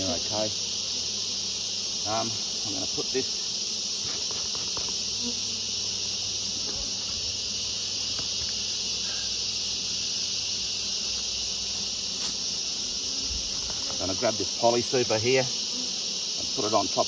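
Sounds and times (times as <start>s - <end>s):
honeybees swarming: 0.0s - 17.0s
insects droning: 0.0s - 17.0s.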